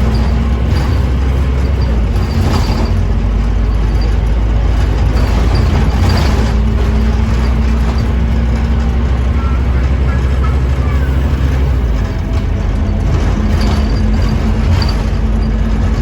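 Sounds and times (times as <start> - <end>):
bus diesel engine droning: 0.0 - 16.0
road noise: 0.0 - 16.0.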